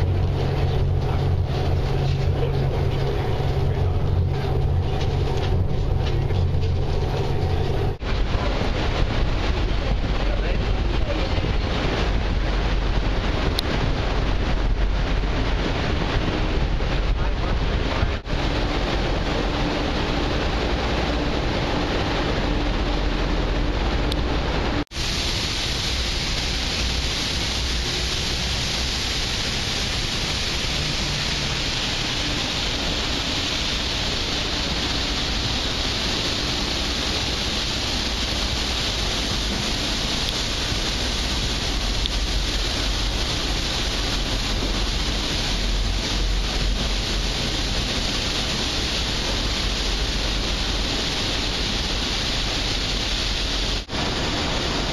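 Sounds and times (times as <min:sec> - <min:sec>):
water rushing along hull: 0:00.0 - 0:54.9
wind on microphone: 0:00.0 - 0:54.9.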